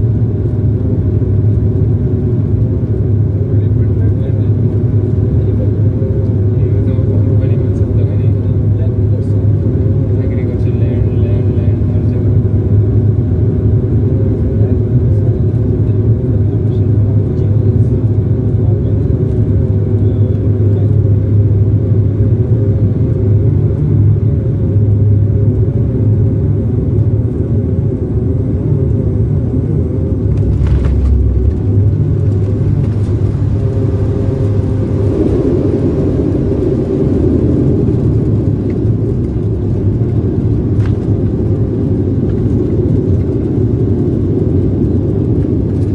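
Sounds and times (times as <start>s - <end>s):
airliner engines rumbling in cabin: 0.0s - 45.9s.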